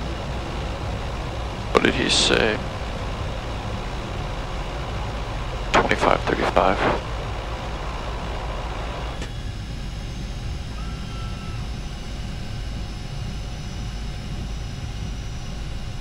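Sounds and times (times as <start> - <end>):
turboprop engines rumbling: 0.0 - 16.0.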